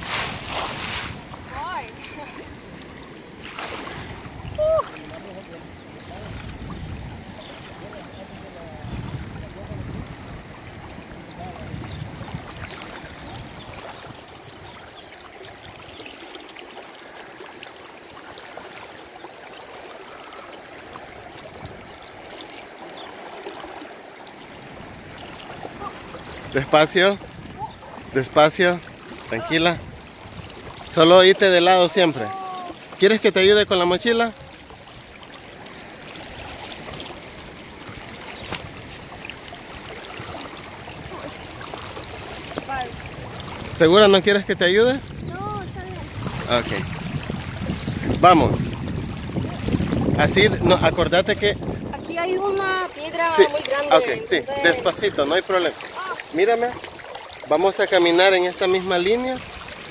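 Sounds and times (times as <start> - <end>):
people wading through water: 0.0 - 59.9
river water rushing and splashing: 0.0 - 59.9.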